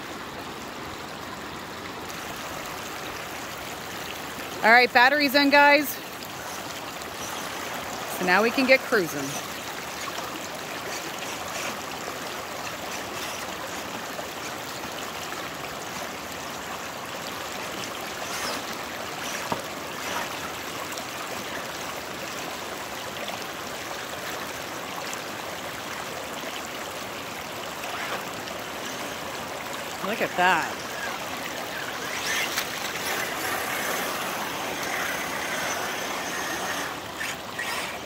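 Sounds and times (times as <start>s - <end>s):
creek water running over rocks: 0.0s - 38.0s.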